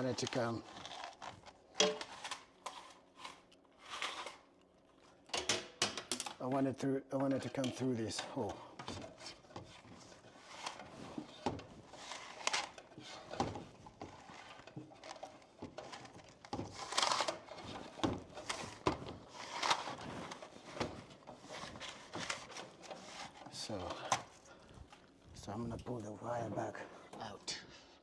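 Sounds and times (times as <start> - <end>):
cable scraping in wall cavity: 0.0 - 5.4, 7.1 - 27.5.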